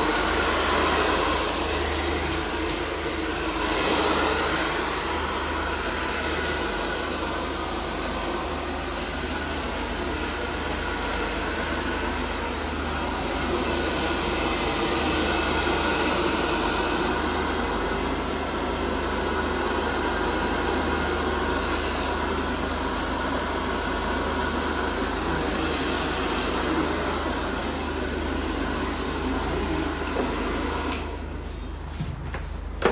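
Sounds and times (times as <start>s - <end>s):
hair dryer blowing: 0.0s - 32.9s.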